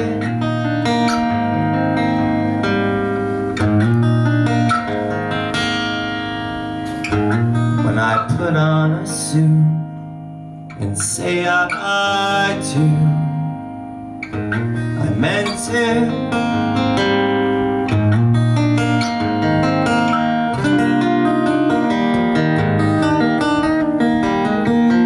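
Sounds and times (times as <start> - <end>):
guitar playing: 0.0 - 25.0.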